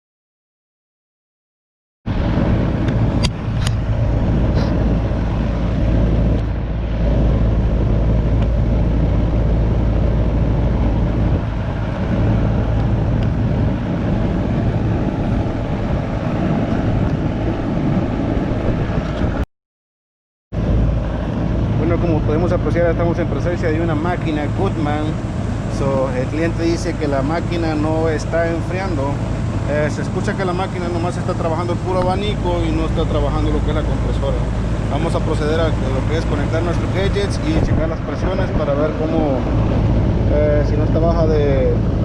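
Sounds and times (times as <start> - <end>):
condenser fan motor humming: 2.2 - 18.2, 20.6 - 42.0.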